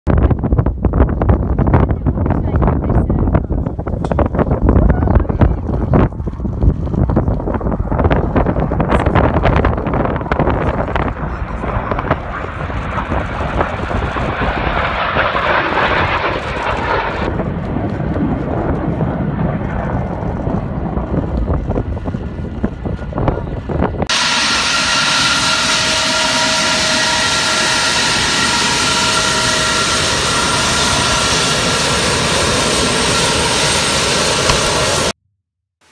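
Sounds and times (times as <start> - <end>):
wind buffeting microphone: 0.1 - 35.1
jet noise on landing roll: 0.1 - 35.2
turbofan engines whining: 0.9 - 35.2.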